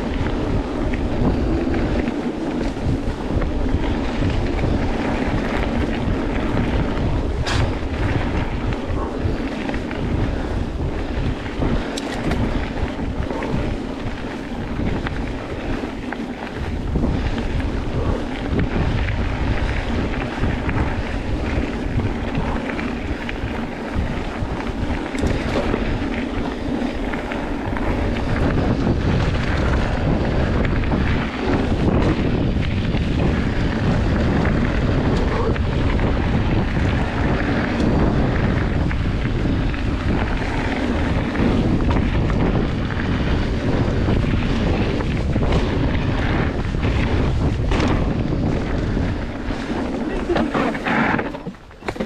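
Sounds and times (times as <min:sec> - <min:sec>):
bike knocks and rattles: 0:00.0 - 0:52.0
tyres rolling on dirt trail: 0:00.0 - 0:52.0
wind on microphone: 0:00.0 - 0:52.0.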